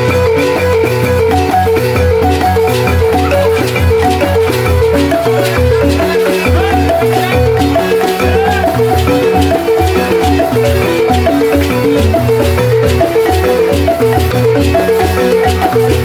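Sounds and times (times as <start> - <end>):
balafon played fast: 0.0 - 16.0.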